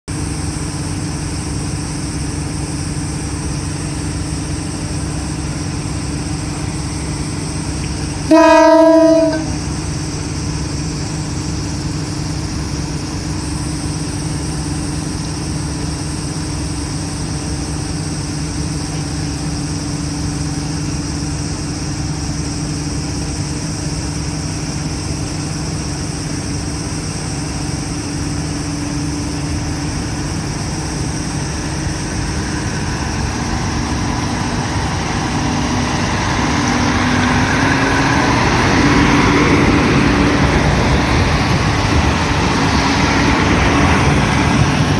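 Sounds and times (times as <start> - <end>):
diesel railcar engines: 0.1 - 44.9.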